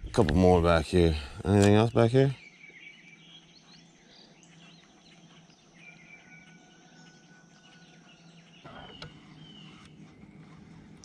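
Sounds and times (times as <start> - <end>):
birds chirping: 0.0 - 11.0
low steady hum: 0.0 - 11.0.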